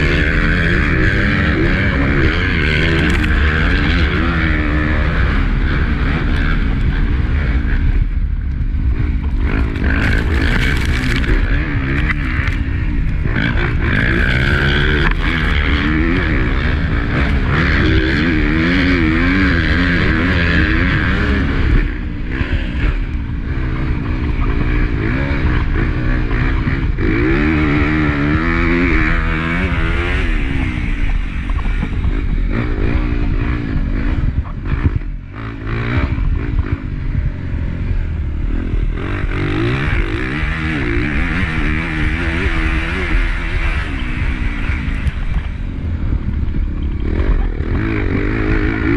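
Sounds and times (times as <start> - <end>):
motorbike engine revving: 0.0 - 48.9.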